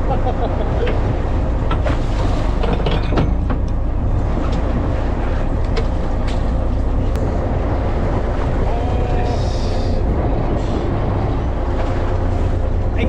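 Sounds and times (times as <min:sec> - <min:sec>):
boat engine running: 0:00.0 - 0:13.0
water noise: 0:00.0 - 0:13.0
wind noise: 0:00.0 - 0:13.0.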